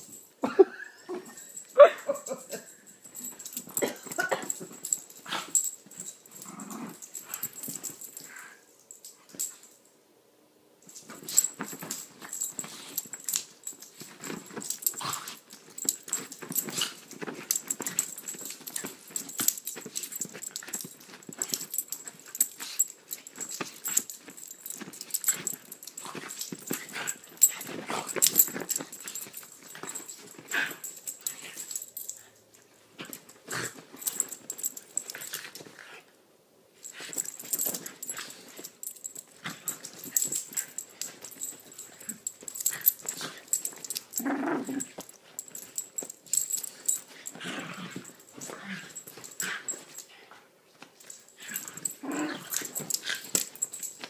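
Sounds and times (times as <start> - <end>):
bedding rustling: 3.0 - 8.5, 10.9 - 36.0, 36.8 - 54.0
dogs play growling: 3.2 - 8.6, 11.0 - 32.3, 32.9 - 36.1, 36.8 - 50.4, 51.0 - 54.0.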